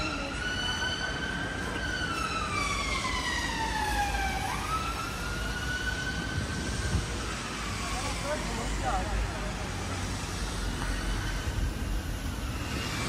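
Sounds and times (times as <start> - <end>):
emergency vehicle siren wailing: 0.0 - 13.0
low rumble of city traffic: 0.0 - 13.0.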